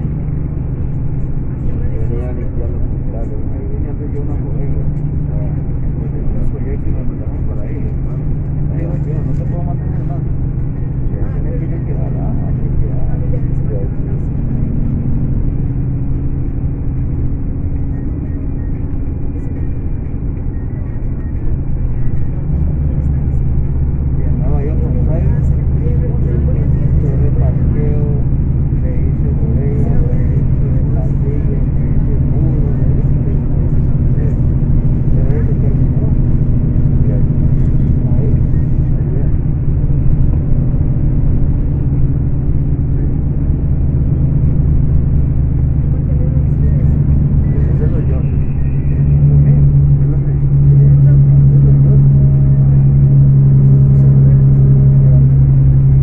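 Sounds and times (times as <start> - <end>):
diesel coach engine droning: 0.0 - 56.0.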